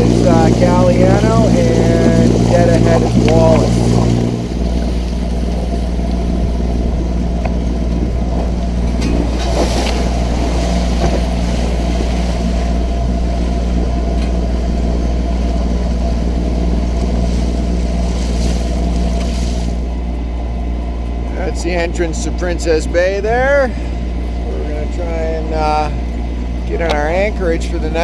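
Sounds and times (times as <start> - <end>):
boat engine droning: 0.0 - 28.0
water wash: 0.0 - 28.0
wind: 0.0 - 28.0.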